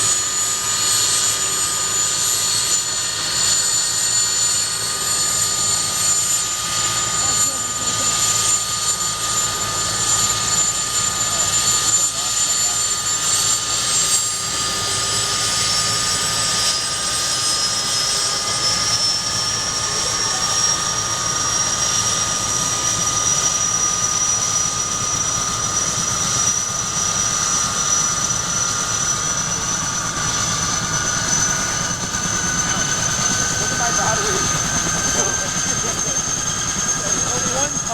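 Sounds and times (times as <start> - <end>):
turbine engine whine: 0.0 - 37.9
helicopter rotors rumbling: 0.1 - 37.9.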